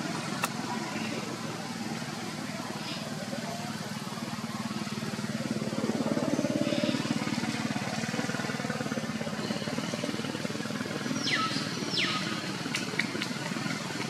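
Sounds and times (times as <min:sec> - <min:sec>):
engine running with fast throb: 0:00.0 - 0:14.0.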